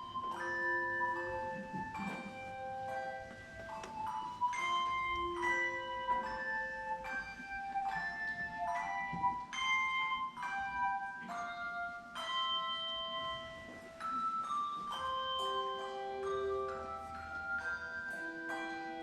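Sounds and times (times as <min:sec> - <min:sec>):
handbell choir playing chords: 0:00.0 - 0:19.0.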